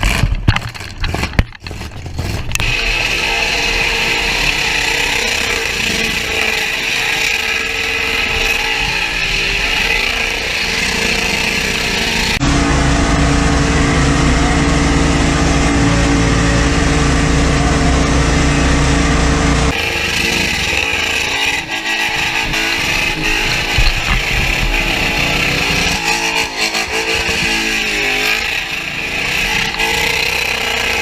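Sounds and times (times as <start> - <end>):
car engine running: 0.0 - 31.0.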